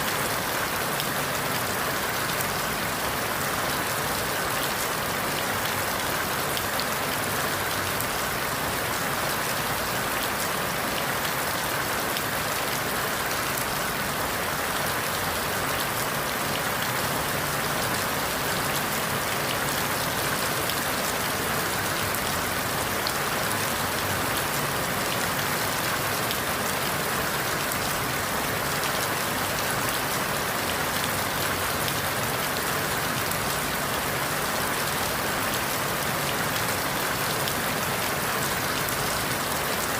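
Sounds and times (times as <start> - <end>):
rain falling through leaves: 0.0 - 39.9.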